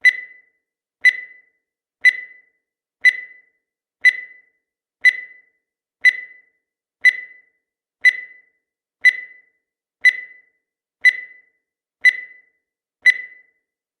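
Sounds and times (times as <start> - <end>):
sharp timer ticks: 0.0 - 13.6.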